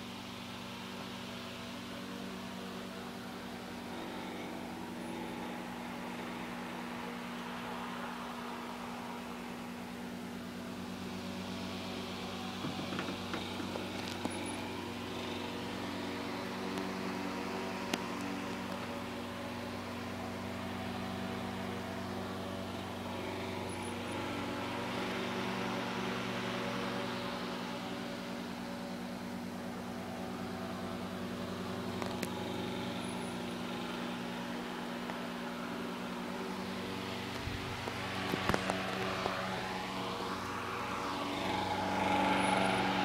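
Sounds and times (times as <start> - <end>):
aquarium pump humming: 0.0 - 43.0.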